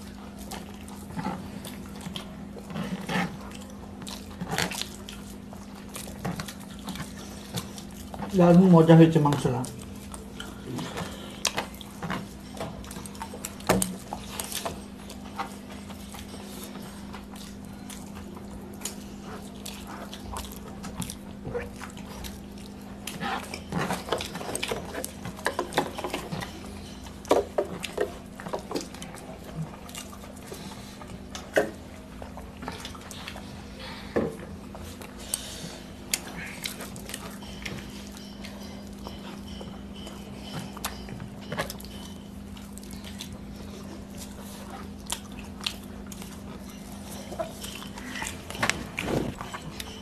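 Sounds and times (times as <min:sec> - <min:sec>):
chewing and lip smacks: 0:00.0 - 0:08.6, 0:09.3 - 0:33.7, 0:34.6 - 0:50.0
fingers mixing wet food: 0:00.0 - 0:33.8, 0:34.4 - 0:50.0
steady low hum: 0:00.0 - 0:50.0.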